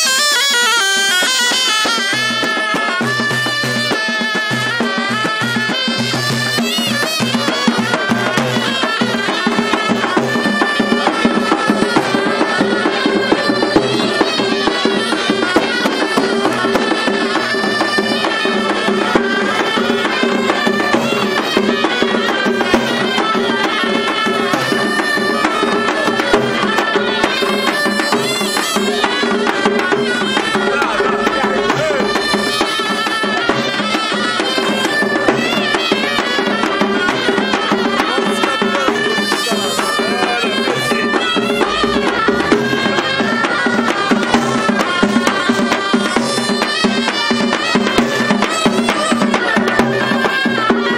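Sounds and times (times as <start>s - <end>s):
frame drums beating: 0.0s - 50.9s
shrill reed pipe melody: 0.0s - 50.9s.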